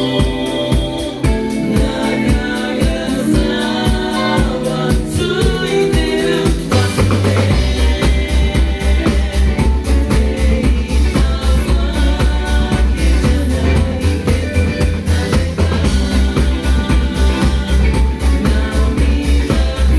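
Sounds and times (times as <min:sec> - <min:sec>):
bass guitar: 0:00.0 - 0:19.9
drum kit beat: 0:00.0 - 0:19.9
person singing: 0:00.0 - 0:19.9.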